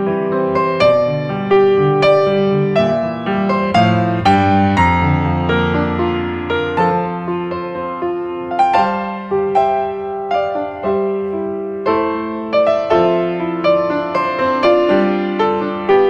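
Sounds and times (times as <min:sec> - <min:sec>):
calm piano melody: 0:00.0 - 0:16.0.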